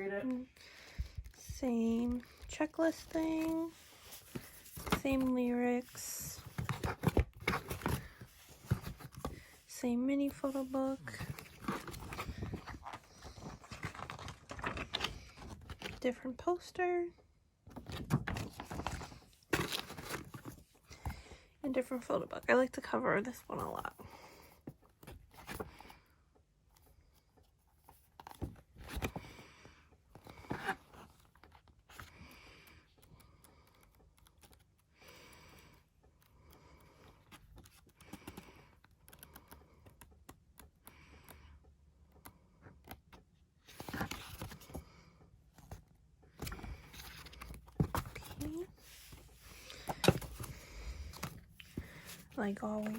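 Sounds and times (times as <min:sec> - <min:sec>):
photo book pages turning: 0:00.0 - 0:16.4, 0:17.7 - 0:22.1, 0:27.8 - 0:41.0, 0:42.2 - 0:52.9.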